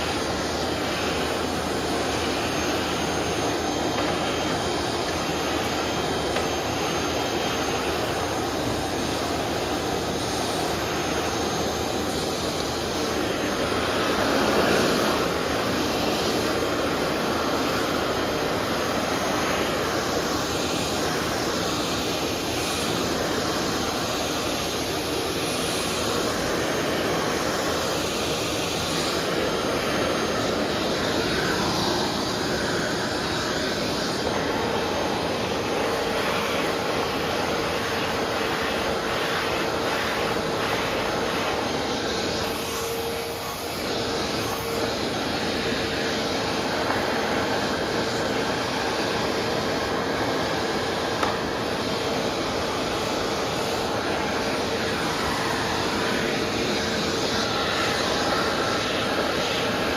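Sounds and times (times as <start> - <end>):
steady whine: 0.0 - 59.9
vacuum cleaner running: 0.0 - 59.9.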